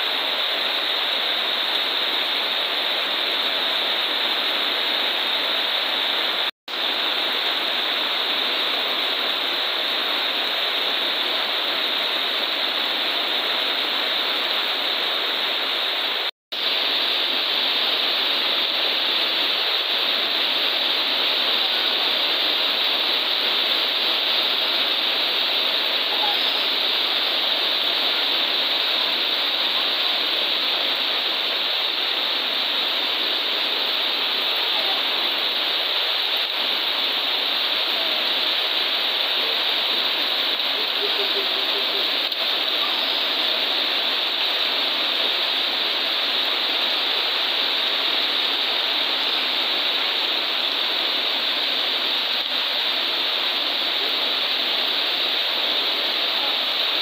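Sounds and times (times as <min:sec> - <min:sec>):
heavy rain on metal roofing: 0:00.0 - 0:57.0.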